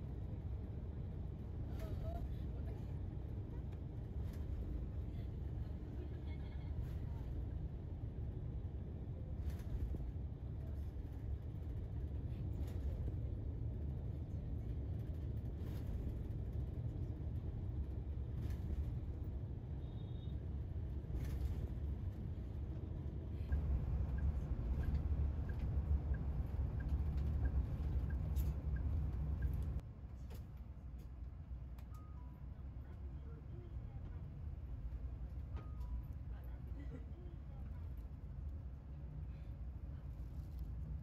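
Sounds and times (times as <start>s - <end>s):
bus engine and road rumble: 0.0s - 41.0s.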